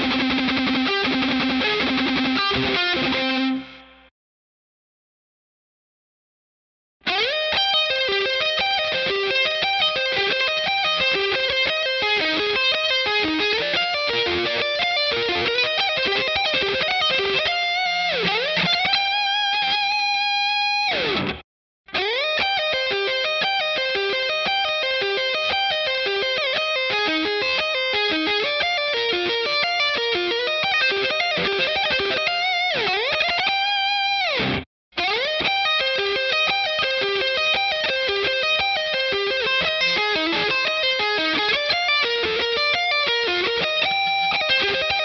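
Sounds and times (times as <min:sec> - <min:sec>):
electric guitar lead phrase: 0:00.0 - 0:04.1, 0:07.1 - 0:21.4, 0:22.0 - 0:45.0.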